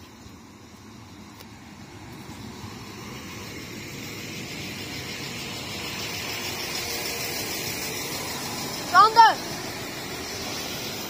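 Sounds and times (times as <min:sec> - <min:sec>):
diesel engine of train: 0:00.0 - 0:11.0
train wheels on rails: 0:00.0 - 0:11.0.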